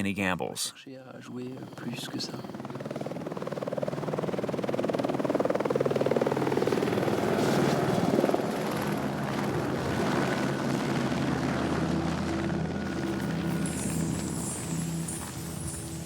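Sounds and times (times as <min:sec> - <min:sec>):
helicopter rotor chopping: 0:01.2 - 0:16.0.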